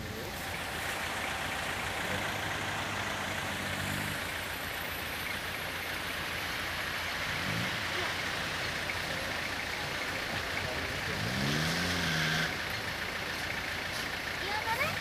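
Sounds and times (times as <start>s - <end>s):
vehicle engines idling: 0.0s - 15.0s.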